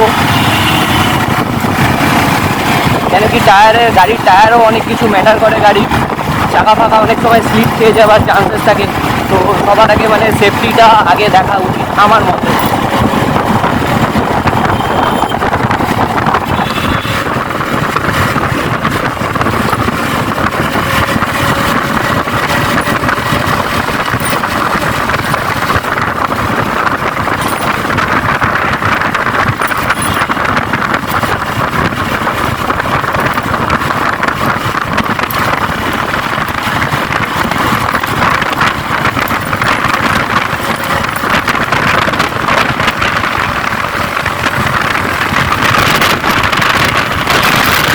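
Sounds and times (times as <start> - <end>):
motorcycle engine running: 0.0 - 47.9
road and traffic noise: 0.0 - 47.9
wind rush on microphone: 0.0 - 47.9.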